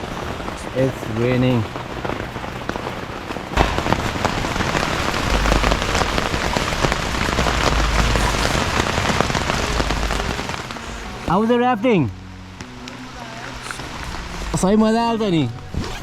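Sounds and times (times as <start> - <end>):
heavy rain on a tent: 0.0 - 16.0
low rumble: 0.0 - 16.0.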